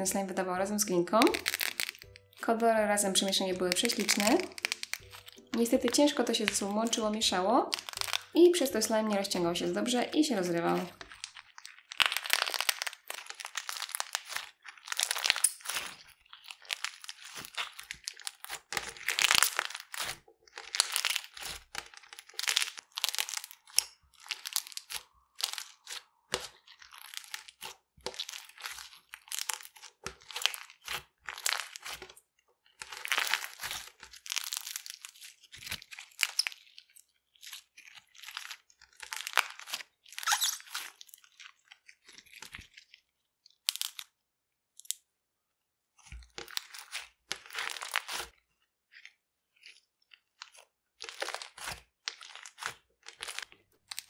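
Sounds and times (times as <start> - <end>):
slime crackling and crunching: 0.7 - 45.0, 45.9 - 54.0.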